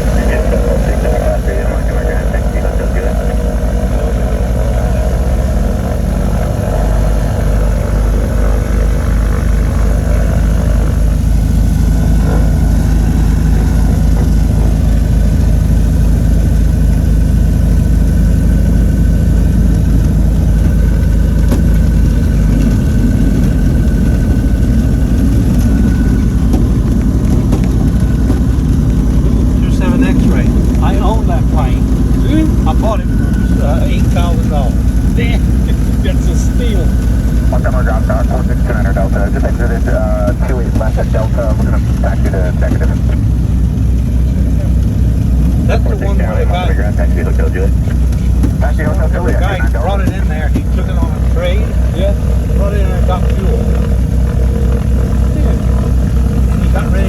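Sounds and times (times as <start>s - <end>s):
aircraft engines droning in cabin: 0.0s - 57.0s.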